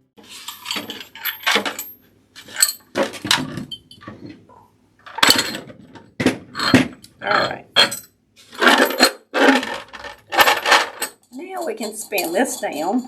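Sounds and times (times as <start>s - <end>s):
parts clinking and rattling: 0.2s - 13.0s.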